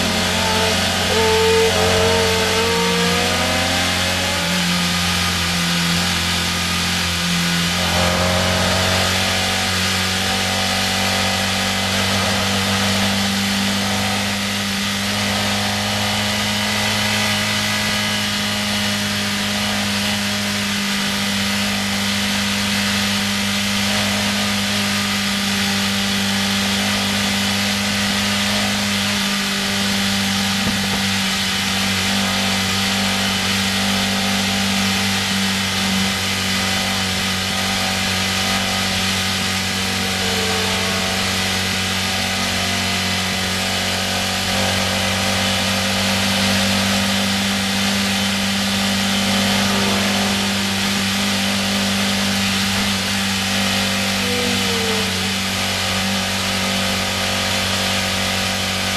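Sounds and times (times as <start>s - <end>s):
racing car engine running: 0.0s - 58.9s
wind and road noise: 0.0s - 58.9s.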